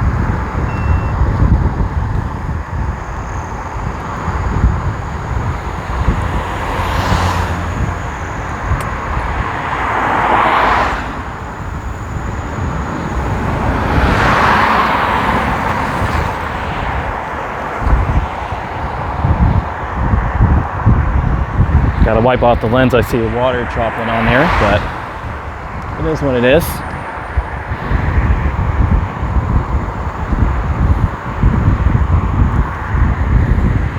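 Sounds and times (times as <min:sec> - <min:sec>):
cars passing on wet road: 0:00.0 - 0:33.9
steady low rumble: 0:00.0 - 0:33.9.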